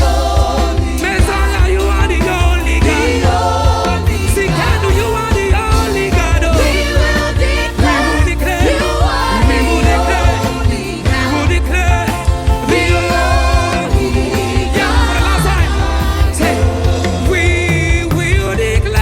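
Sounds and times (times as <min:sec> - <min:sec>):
bass: 0:00.0 - 0:19.0
drums: 0:00.0 - 0:19.0
gospel worship music with singers: 0:00.0 - 0:19.0.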